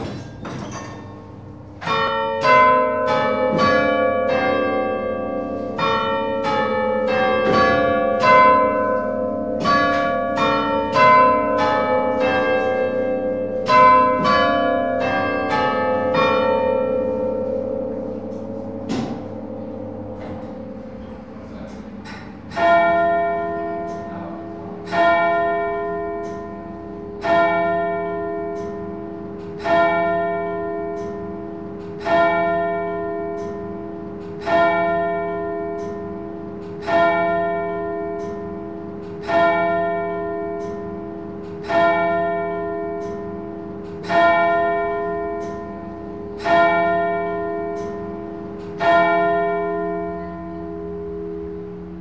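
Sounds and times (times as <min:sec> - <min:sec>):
church bell tolling: 0:00.0 - 0:52.0.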